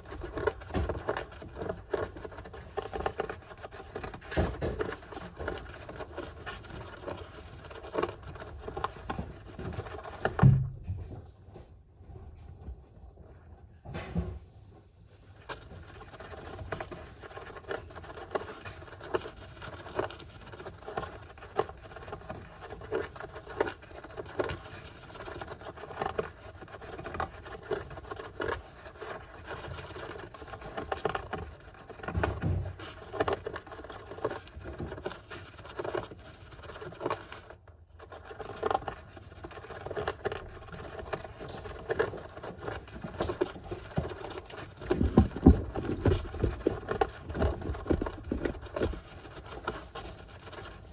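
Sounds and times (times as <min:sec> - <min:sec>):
hamster claws scratching sand: 0:00.0 - 0:10.5, 0:15.1 - 0:50.9.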